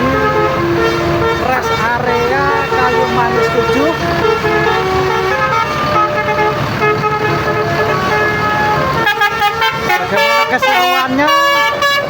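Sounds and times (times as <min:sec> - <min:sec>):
musical air horn playing tune: 0:00.0 - 0:12.0.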